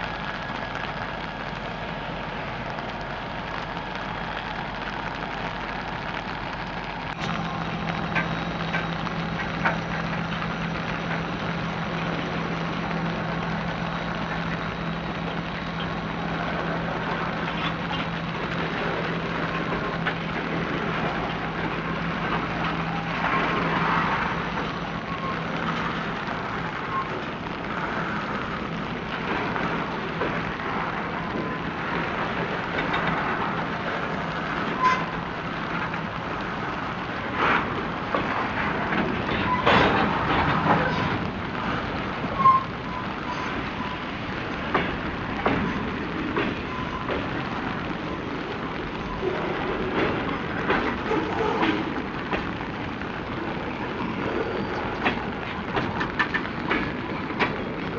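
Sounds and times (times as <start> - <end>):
diesel locomotive drone: 0.0 - 57.9
train wheels clattering on rails: 0.0 - 57.9.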